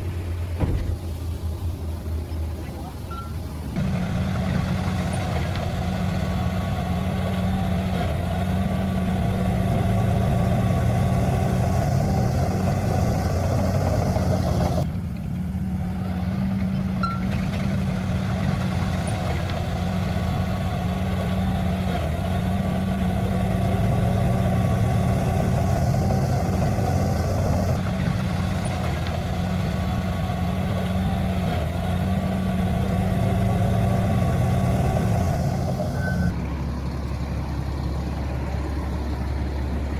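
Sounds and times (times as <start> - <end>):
heavy diesel engine at low revs: 0.0 - 39.9.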